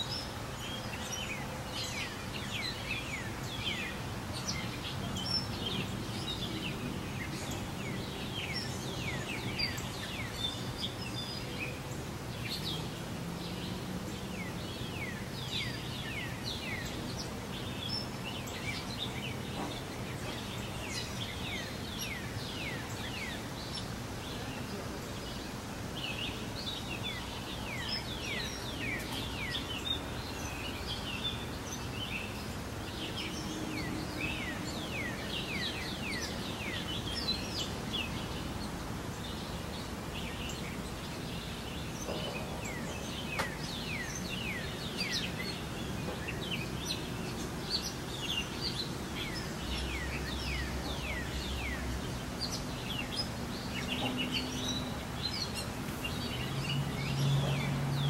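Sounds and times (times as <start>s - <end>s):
wild birds chirping: 0.0s - 58.0s.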